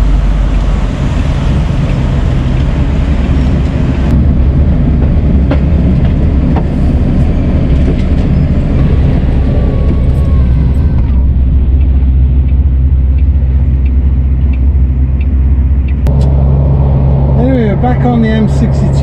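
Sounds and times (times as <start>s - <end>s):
lorry engine rumble: 0.0s - 19.0s
road noise: 0.0s - 19.0s.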